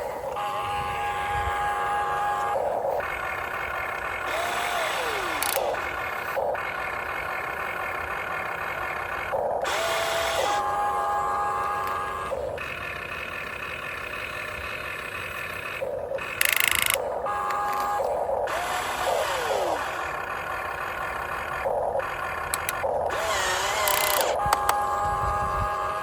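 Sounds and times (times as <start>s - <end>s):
electric motors whining: 0.0s - 26.0s.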